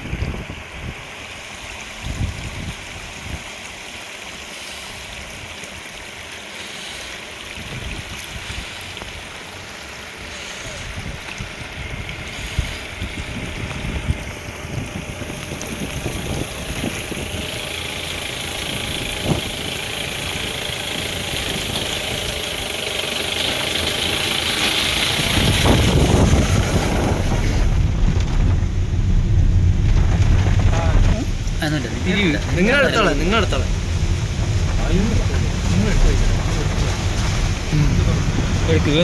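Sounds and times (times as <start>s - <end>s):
off-road vehicle engine running: 0.0s - 39.0s.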